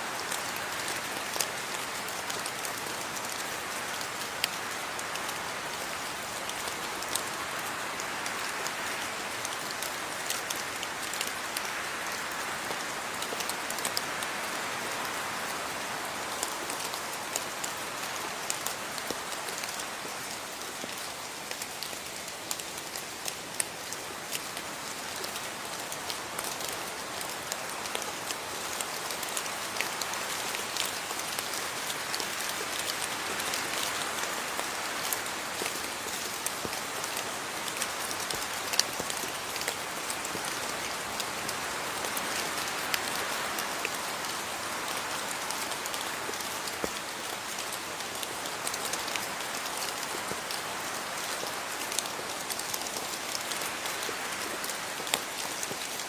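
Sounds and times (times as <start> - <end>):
steady rain: 0.0 - 56.0
raindrops ticking on a surface: 0.1 - 56.0.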